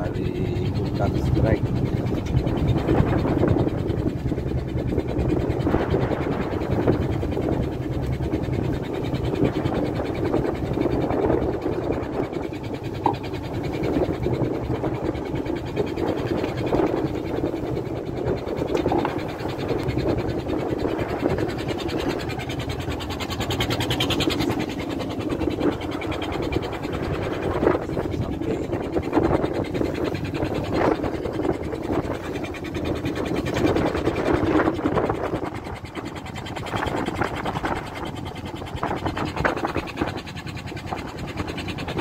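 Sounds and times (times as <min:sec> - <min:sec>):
boat motor rumbling: 0:00.0 - 0:42.0.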